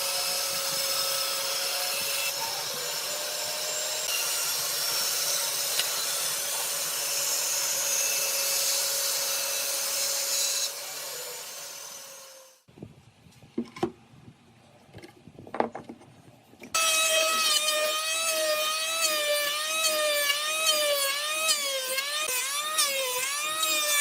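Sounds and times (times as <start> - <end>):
electric power tool on wood: 0.0 - 12.7, 16.7 - 24.0.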